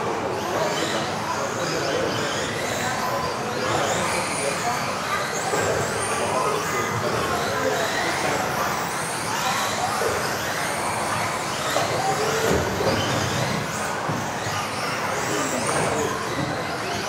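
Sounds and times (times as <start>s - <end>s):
electric rc car motors whining: 0.0s - 17.0s.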